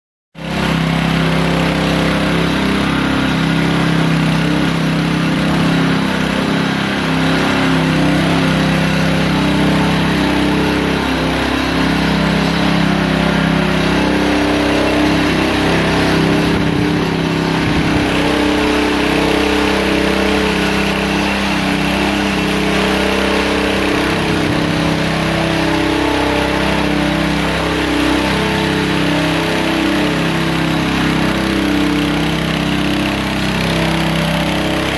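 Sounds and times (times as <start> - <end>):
power trowel running: 0.4 - 34.9.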